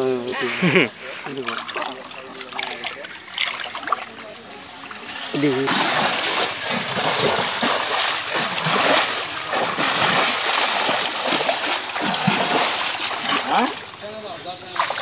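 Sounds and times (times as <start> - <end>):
people wading through water: 0.0 - 15.0.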